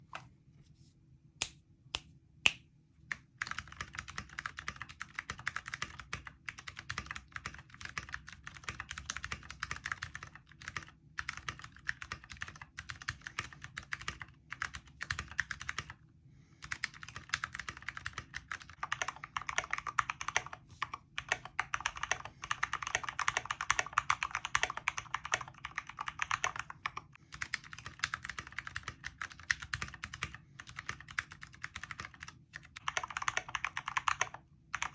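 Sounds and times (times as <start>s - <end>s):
mechanical keyboard typing: 3.1s - 16.0s, 16.6s - 34.9s.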